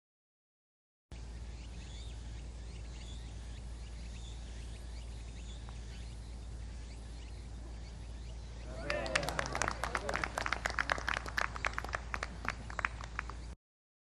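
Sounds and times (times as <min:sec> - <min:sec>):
birds chirping: 0:01.1 - 0:13.6.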